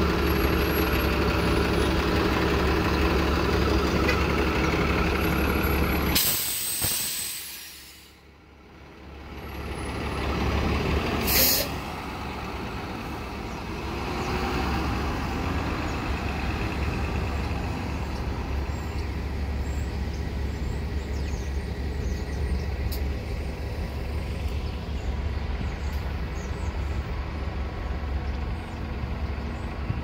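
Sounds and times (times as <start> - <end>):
bus diesel engine running up: 0.0 - 30.0
low street traffic rumble: 0.0 - 30.0.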